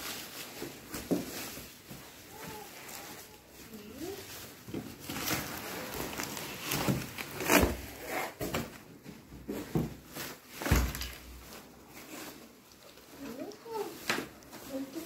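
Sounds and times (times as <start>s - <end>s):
bubble wrap rustling and crinkling: 0.0s - 15.0s.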